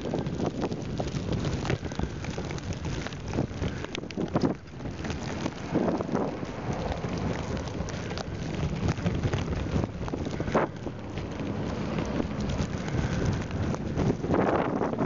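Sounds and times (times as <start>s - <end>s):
tyres crackling in snow: 0.0s - 15.0s
wind rushing over microphone: 0.0s - 15.0s.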